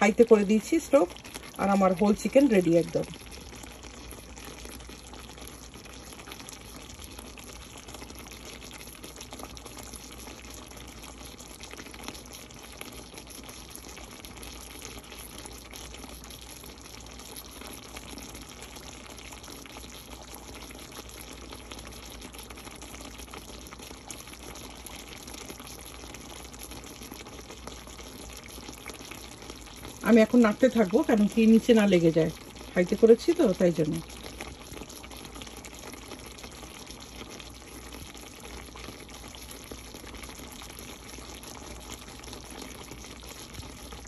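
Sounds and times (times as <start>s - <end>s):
liquid boiling in a wok: 0.0s - 44.0s.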